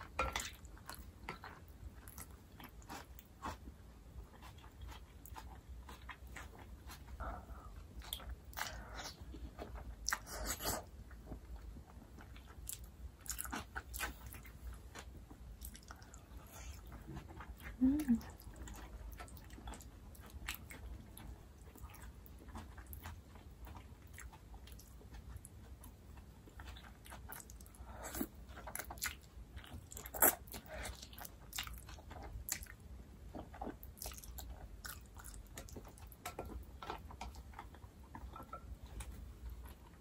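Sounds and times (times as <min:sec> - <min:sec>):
wet chewing and mouth smacks: 0:00.4 - 0:40.0.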